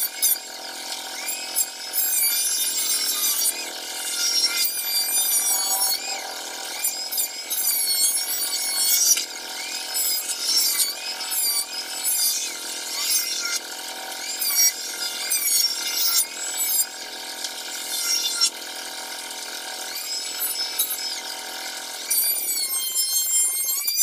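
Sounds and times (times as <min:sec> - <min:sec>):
electric planer whining: 0:00.0 - 0:24.0.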